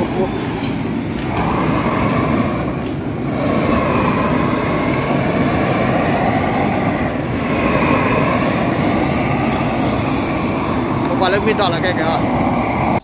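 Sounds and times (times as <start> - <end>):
propane torch flame rushing: 0.0 - 13.0.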